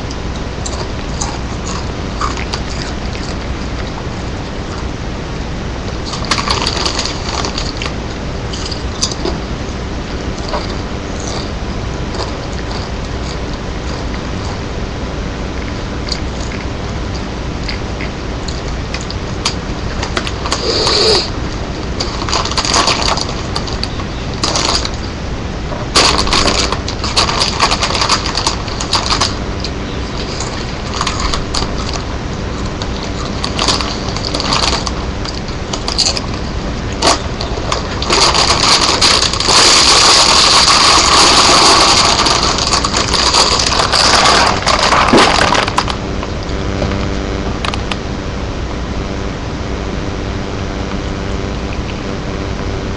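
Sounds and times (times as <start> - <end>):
cat crunching chips: 0.0 - 14.7, 15.3 - 46.5.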